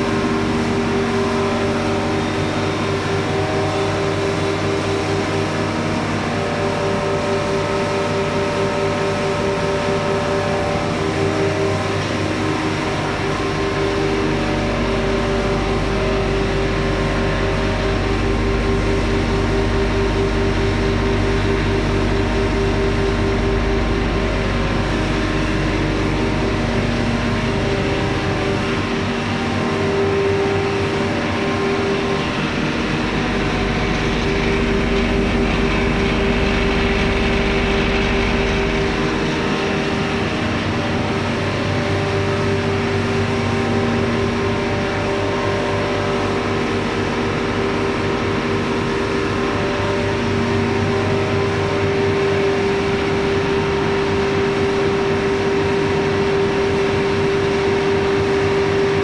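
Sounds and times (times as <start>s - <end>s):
mill machinery humming: 0.0s - 59.0s.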